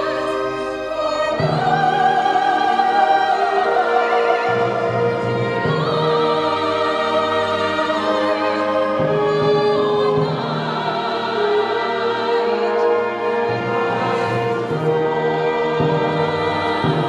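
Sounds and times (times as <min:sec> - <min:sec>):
choir singing sacred music: 0:00.0 - 0:17.0
instrumental accompaniment: 0:00.0 - 0:17.0.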